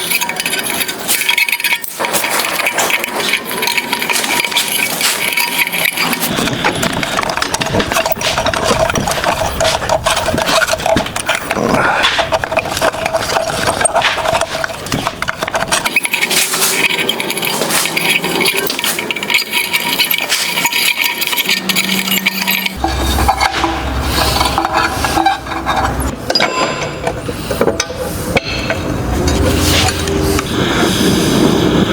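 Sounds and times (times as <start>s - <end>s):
hand tools clinking on steel: 0.0s - 30.6s.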